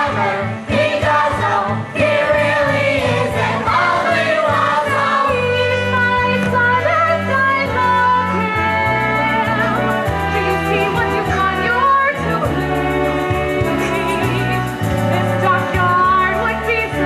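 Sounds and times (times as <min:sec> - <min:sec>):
chorus singing show tune: 0:00.0 - 0:17.0
instrumental accompaniment: 0:00.0 - 0:17.0.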